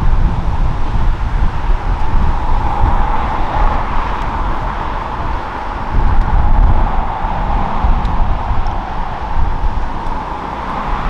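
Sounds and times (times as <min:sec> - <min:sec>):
wind gusting over microphone: 0:00.0 - 0:11.0.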